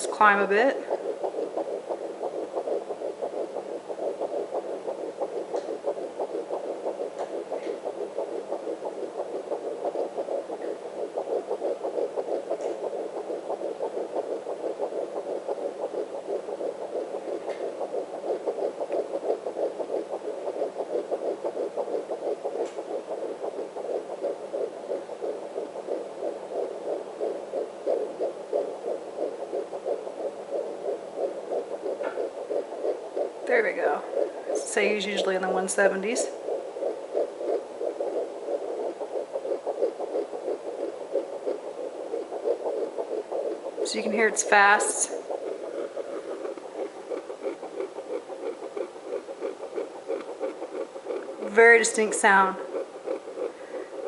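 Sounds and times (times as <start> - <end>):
fetal heartbeat through doppler speaker: 0.0 - 54.0.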